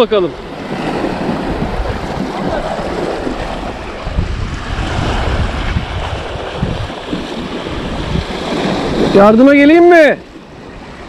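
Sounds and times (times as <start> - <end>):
waves washing against rocks: 0.0 - 11.0
wind rumbling on microphone: 0.0 - 11.0.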